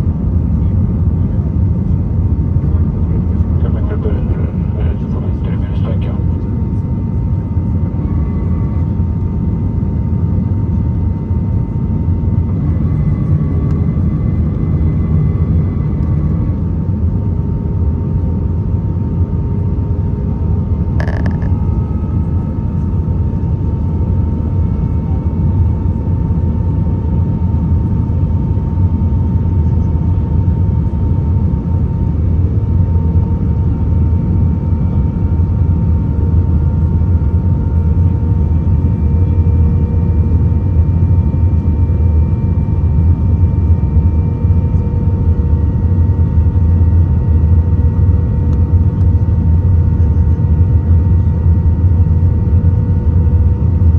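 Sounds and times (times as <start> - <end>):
aircraft engines and airflow rumble: 0.0 - 53.9
faint steady whine: 0.0 - 53.9.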